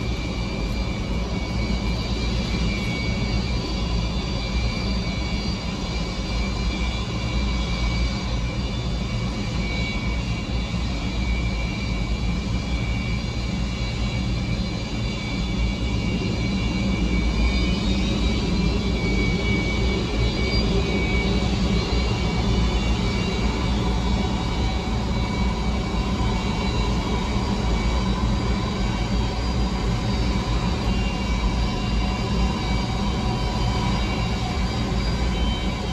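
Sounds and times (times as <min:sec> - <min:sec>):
jet engines whining at taxi power: 0:00.0 - 0:35.9.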